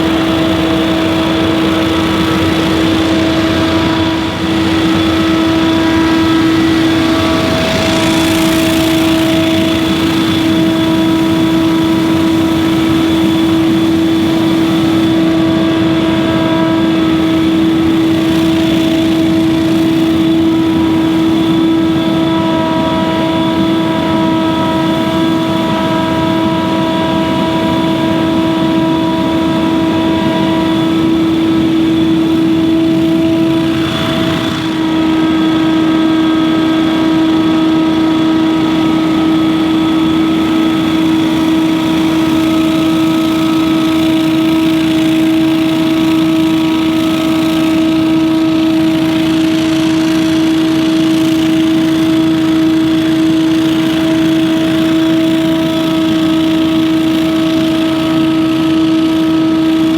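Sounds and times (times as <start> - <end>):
leaf blower whine: 0.0 - 59.9.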